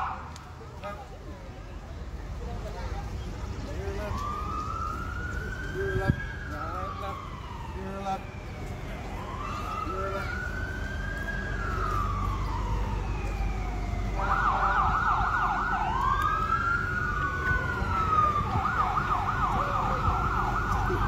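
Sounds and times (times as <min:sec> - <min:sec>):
vehicle engines rumbling: 0:00.0 - 0:21.0
emergency siren wailing and yelping: 0:03.7 - 0:21.0.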